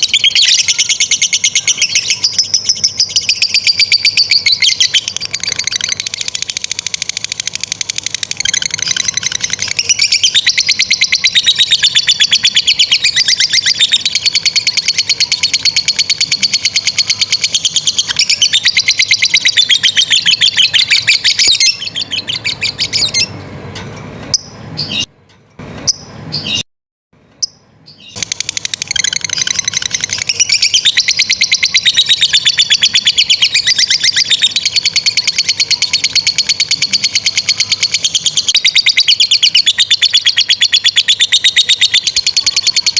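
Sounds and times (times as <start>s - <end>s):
lovebird chattering trill: 0.0s - 23.3s, 27.4s - 42.9s.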